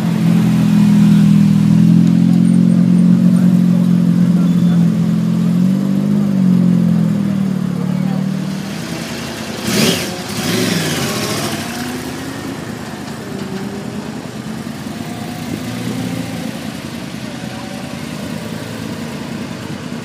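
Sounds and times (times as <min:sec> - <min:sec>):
car engine droning: 0:00.0 - 0:20.0
sports car engine rolling past: 0:00.0 - 0:20.0.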